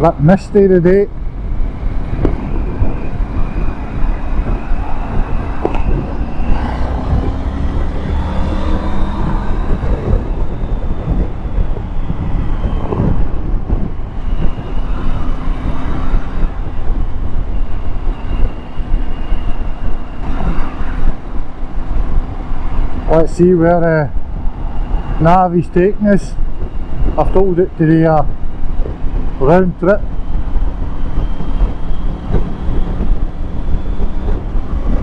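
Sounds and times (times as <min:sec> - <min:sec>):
wind buffeting microphone: 0:00.0 - 0:35.0
motorcycle engine running: 0:00.6 - 0:35.0.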